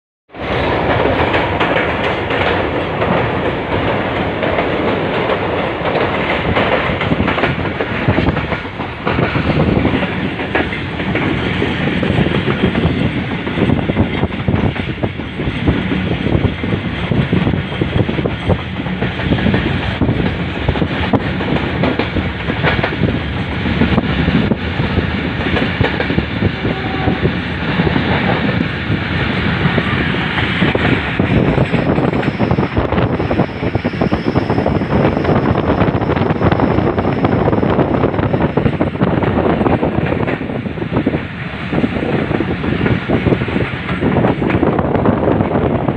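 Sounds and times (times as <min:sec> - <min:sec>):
passenger train rumbling: 0:00.3 - 0:45.9.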